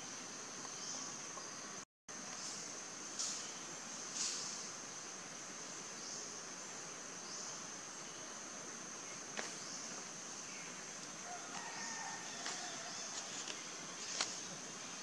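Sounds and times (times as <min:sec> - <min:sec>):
faint forest ambience: 0:00.0 - 0:15.0.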